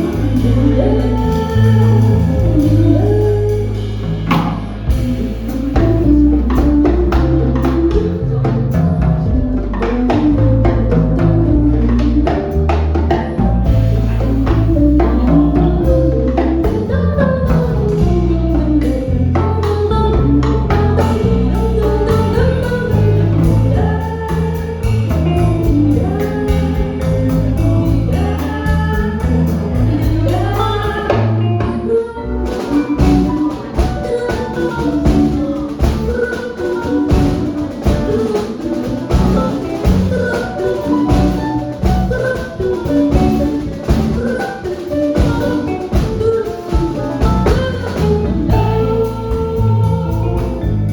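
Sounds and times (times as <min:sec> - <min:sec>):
drum kit: 0:00.0 - 0:50.9
guitar: 0:00.0 - 0:50.9
held bass notes: 0:00.0 - 0:50.9
person singing wordless melody: 0:00.0 - 0:50.9
piano: 0:00.0 - 0:50.9.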